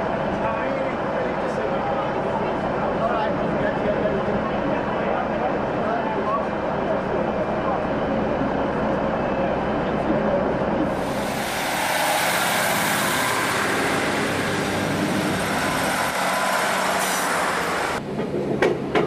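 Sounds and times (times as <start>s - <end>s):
train engine and wheel noise: 0.0s - 19.0s.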